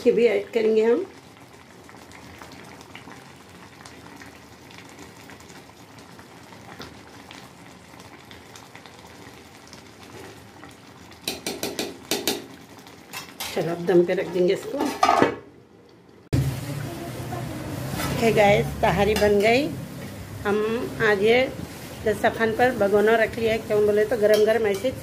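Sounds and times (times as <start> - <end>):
food bubbling and sizzling in pot: 0.0 - 25.0.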